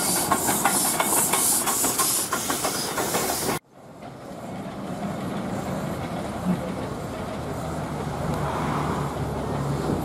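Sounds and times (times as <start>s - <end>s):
steam locomotive cylinders hissing: 0.0s - 10.0s.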